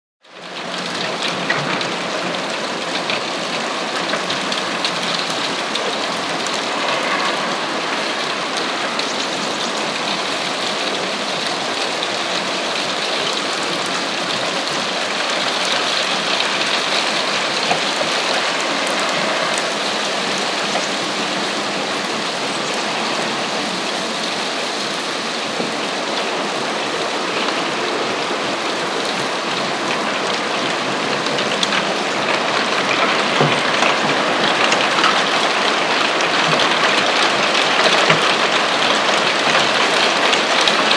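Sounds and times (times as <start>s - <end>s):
hailstones clattering: 0.5s - 40.9s.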